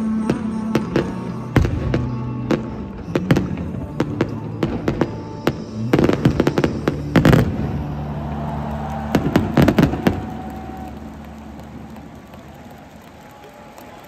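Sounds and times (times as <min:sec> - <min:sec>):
fireworks bangs and crackles: 0:00.2 - 0:13.2.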